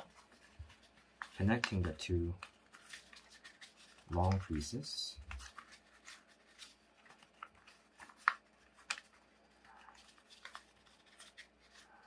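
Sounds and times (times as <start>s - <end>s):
paper crackling and rustling: 0.0s - 12.0s.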